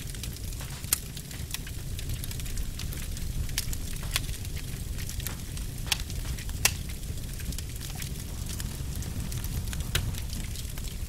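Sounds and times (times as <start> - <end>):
log fire crackling: 0.0 - 11.0.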